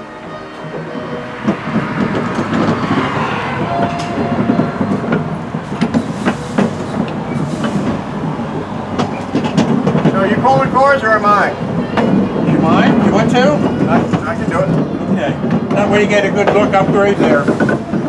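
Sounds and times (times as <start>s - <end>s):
rail vehicle running rumble: 0.0s - 18.0s
wheels clicking over rail joints: 1.4s - 18.0s.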